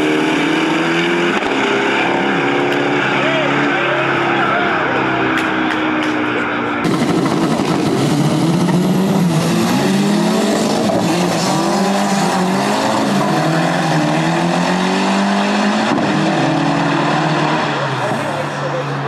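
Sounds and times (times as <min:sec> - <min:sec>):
racing car engines accelerating: 0:00.0 - 0:19.0.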